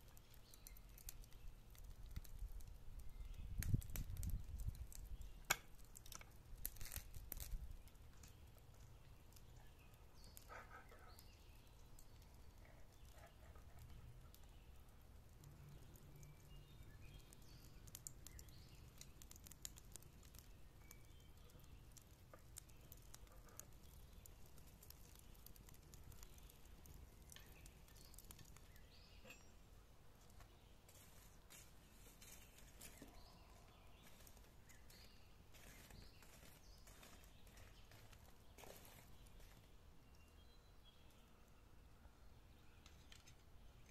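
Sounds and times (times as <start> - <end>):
metal tongs stirring coals: 0.0 - 29.6, 30.3 - 40.2
charcoal fire crackling: 0.0 - 41.3, 42.5 - 43.9.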